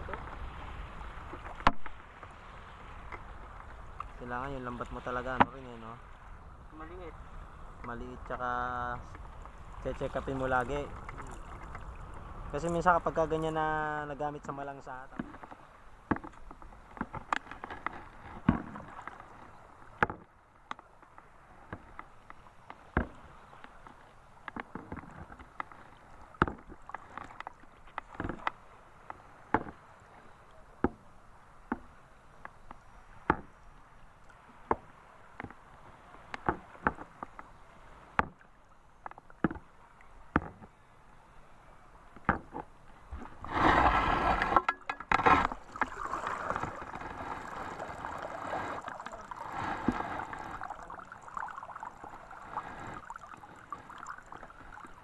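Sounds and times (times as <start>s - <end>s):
waves knocking against boat hull: 0.0s - 40.8s, 42.0s - 55.0s
low wash of water: 0.0s - 55.0s.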